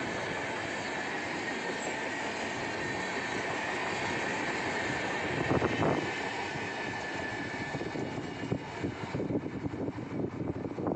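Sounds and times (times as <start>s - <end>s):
train rumbling past: 0.0s - 10.9s.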